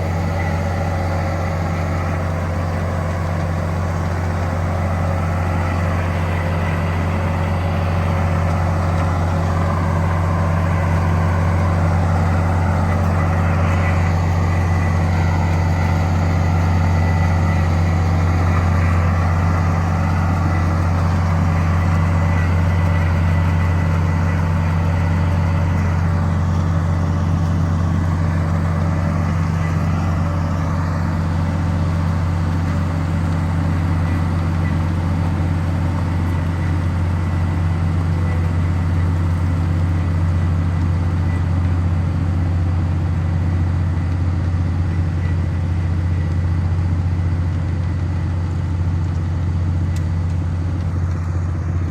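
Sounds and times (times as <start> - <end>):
heavy machine engine humming: 0.0 - 51.9.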